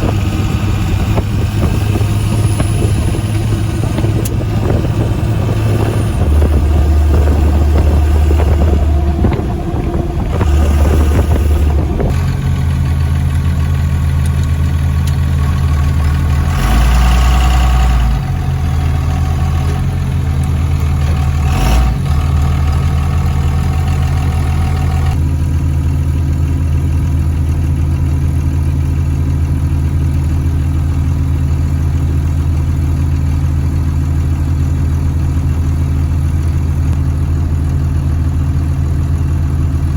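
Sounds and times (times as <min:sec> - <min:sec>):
diesel truck engine driving: 0:00.0 - 0:39.9.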